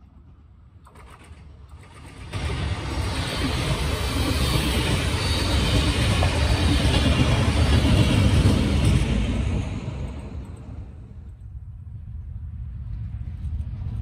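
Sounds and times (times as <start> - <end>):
diesel locomotive: 0.0 - 14.0
train wheels rumbling on rails: 0.0 - 14.0.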